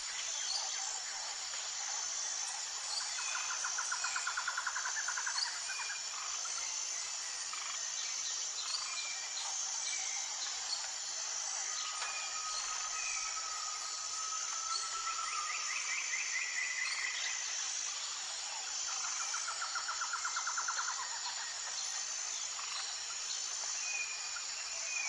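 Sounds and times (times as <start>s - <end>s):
high insect chorus: 0.0s - 25.0s.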